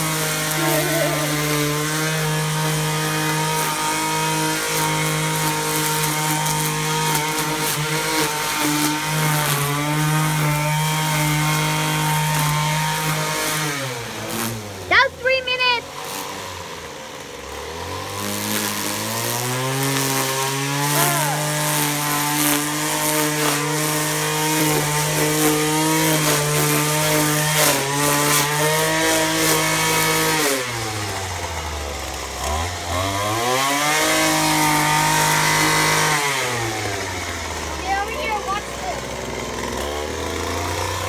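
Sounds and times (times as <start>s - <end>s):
string trimmer revving: 0.0s - 41.0s.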